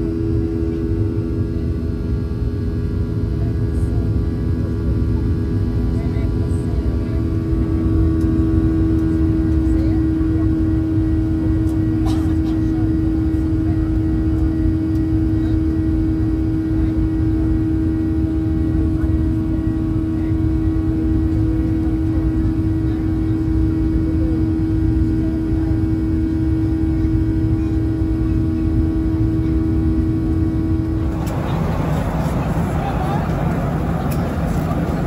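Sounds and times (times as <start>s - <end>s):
airliner cabin drone: 0.0s - 35.0s.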